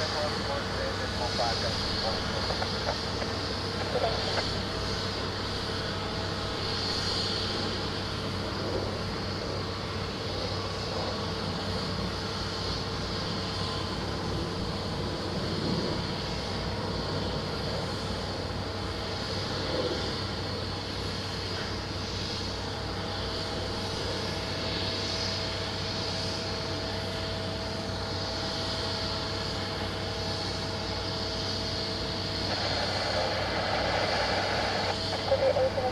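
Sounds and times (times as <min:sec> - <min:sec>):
jet aircraft engine drone: 0:00.0 - 0:35.9.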